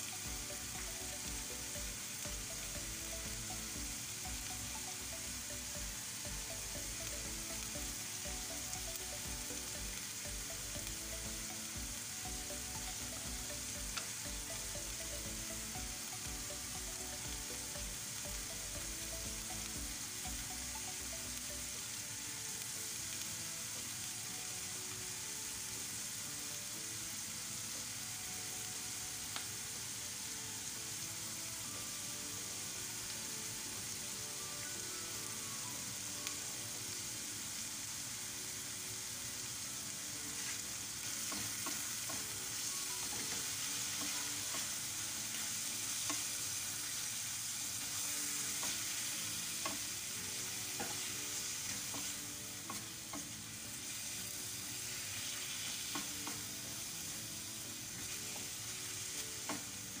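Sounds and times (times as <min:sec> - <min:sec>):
food sizzling in oil: 0:00.0 - 1:00.0.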